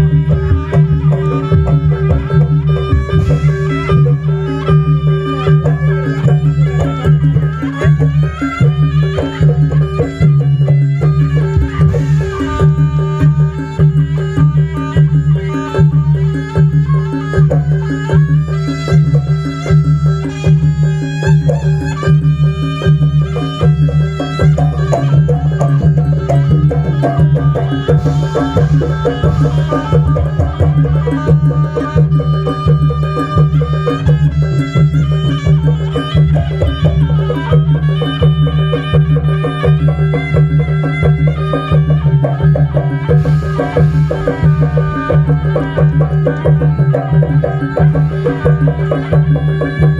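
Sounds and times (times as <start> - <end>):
hand drumming: 0.0 - 49.9.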